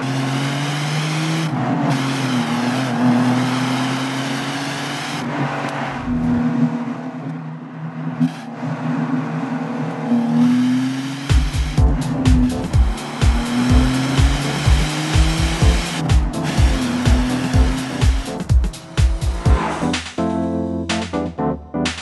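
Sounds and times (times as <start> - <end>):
car engine revving: 0.0 - 20.2.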